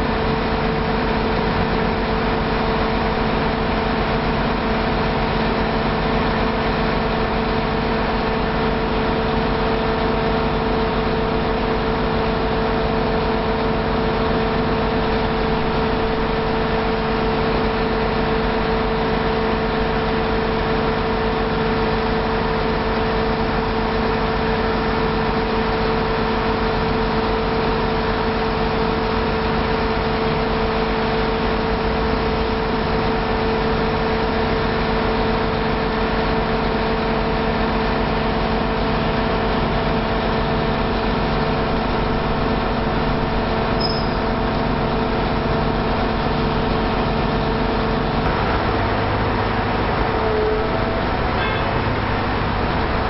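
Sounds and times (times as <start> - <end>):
heavy engine idling: 0.0 - 53.0.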